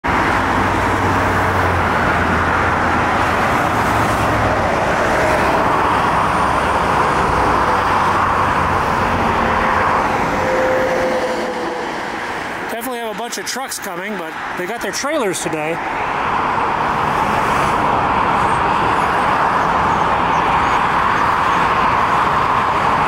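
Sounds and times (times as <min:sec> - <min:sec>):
highway traffic driving past: 0:00.0 - 0:23.0.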